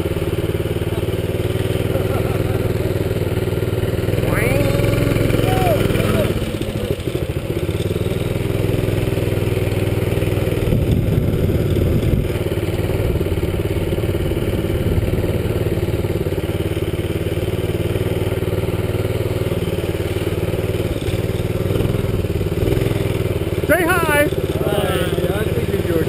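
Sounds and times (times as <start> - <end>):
minibike engine running: 0.0 - 26.0.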